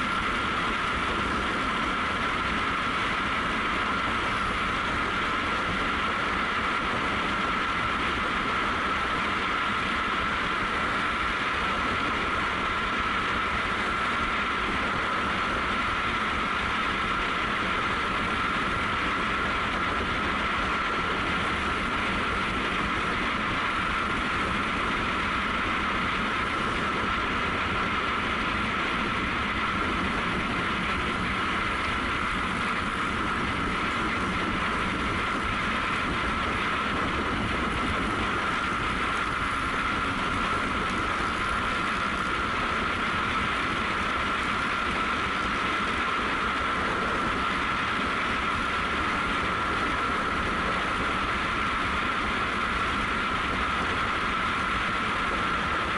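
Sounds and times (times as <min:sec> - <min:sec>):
high whine: 0:00.0 - 0:55.9
motorcycle engine drone: 0:00.0 - 0:55.9
wind and road noise: 0:00.0 - 0:55.9.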